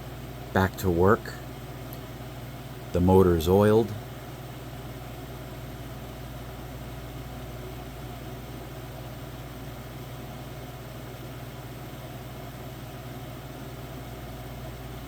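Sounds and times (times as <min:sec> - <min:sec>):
dehumidifier humming with fan noise: 0:00.0 - 0:15.0.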